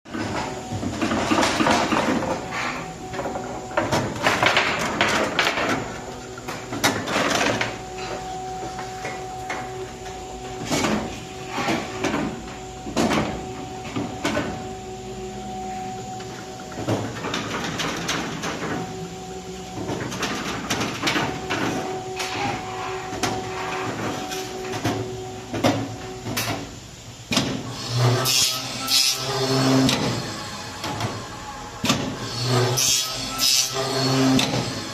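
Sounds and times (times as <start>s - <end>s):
small machine humming: 0.1s - 34.9s.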